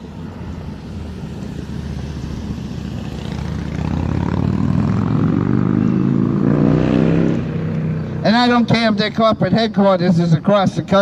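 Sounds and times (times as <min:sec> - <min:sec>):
pitched engine hum: 0:00.0 - 0:09.7.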